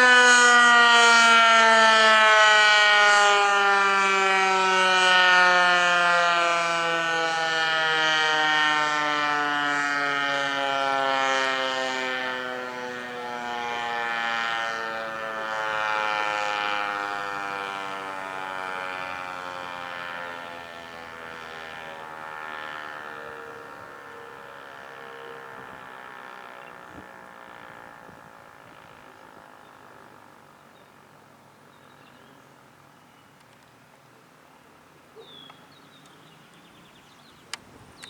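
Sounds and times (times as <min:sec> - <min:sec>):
warning siren winding down: 0:00.0 - 0:30.5.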